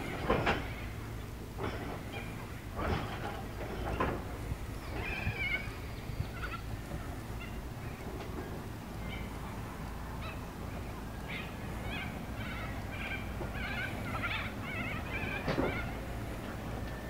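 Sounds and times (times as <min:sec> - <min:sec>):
wagons rolling with low rumble: 0:00.0 - 0:17.0.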